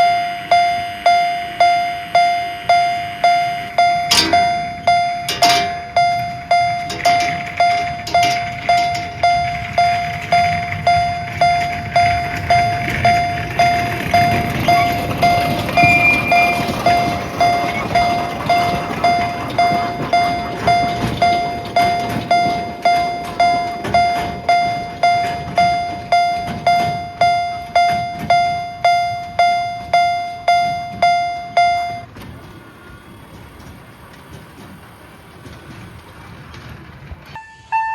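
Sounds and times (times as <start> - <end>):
level crossing bell clanging: 0.0 - 32.2
train rumbling past: 0.0 - 37.9.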